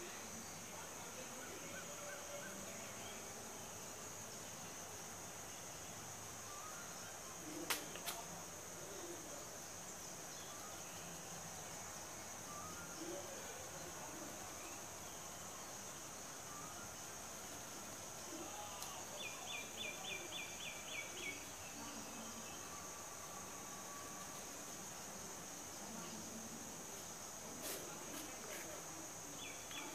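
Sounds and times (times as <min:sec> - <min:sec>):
insect chorus: 0:00.0 - 0:29.9.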